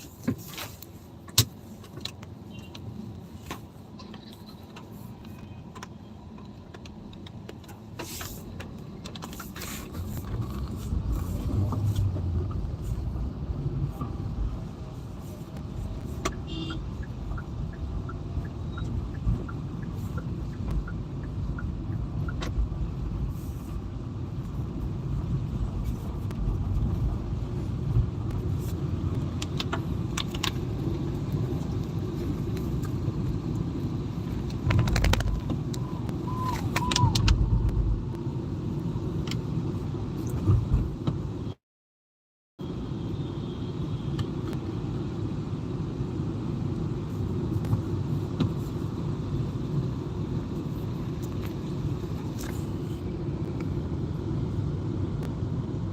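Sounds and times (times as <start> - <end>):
car road and engine rumble: 0.0 - 41.6, 42.6 - 55.9.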